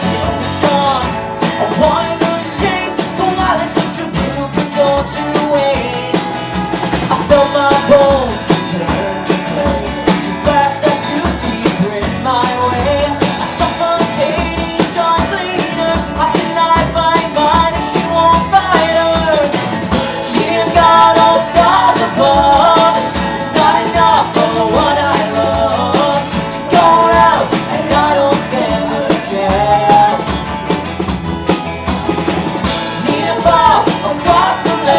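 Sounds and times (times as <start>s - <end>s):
person singing: 0.0s - 30.7s, 32.8s - 34.9s
bass guitar: 0.0s - 34.9s
drum kit: 0.0s - 34.9s
guitars: 0.0s - 34.9s.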